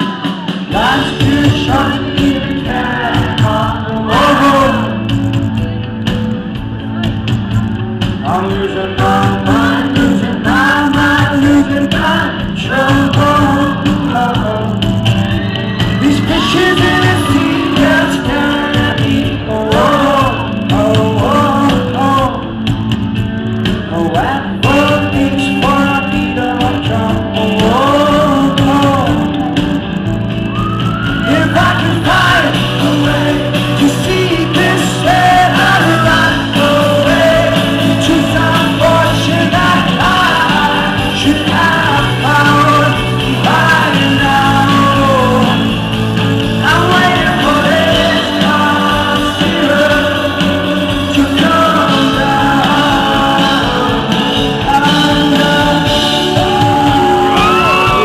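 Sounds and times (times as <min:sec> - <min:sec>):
male lead singer: 0:00.0 - 0:58.0
rock band playing live: 0:00.0 - 0:58.0.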